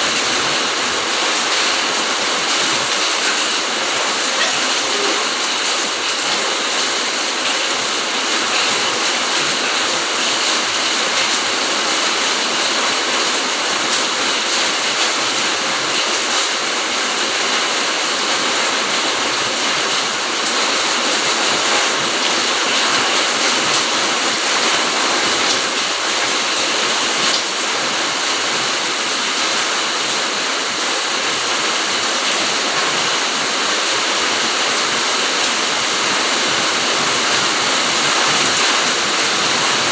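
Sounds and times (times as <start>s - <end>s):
steady rain on foliage: 0.0s - 39.9s.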